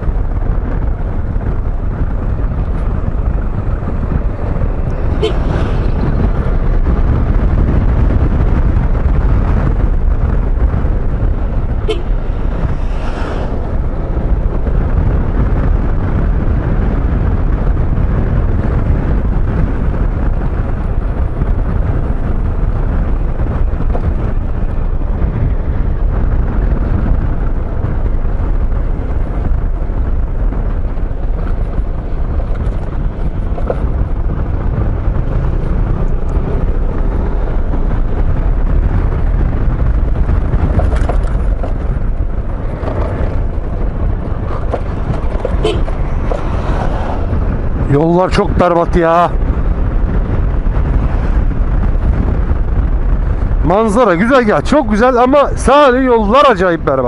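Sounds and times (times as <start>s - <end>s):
tyre noise: 0.0s - 54.9s
wind rumbling on microphone: 0.0s - 57.0s.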